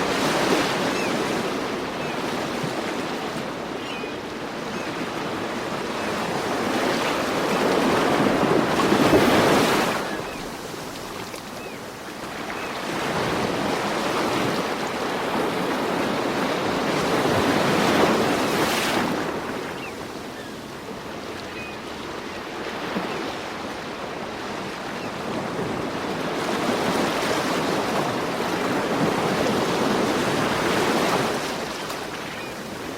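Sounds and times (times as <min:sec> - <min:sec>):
ocean waves breaking: 0:00.0 - 0:32.9.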